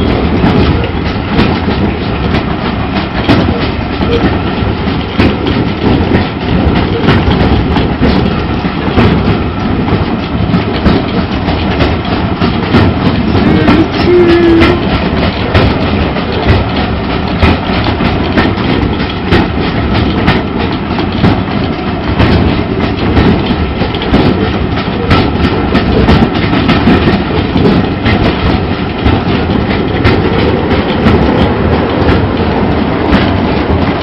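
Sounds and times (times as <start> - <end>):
railway carriage rumble: 0.0 - 34.0
wheels clattering over rail joints: 0.0 - 34.0.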